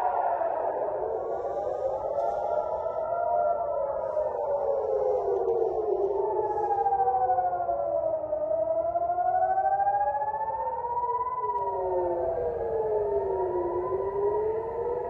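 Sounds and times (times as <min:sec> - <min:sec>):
air-raid sirens wailing: 0:00.0 - 0:15.0.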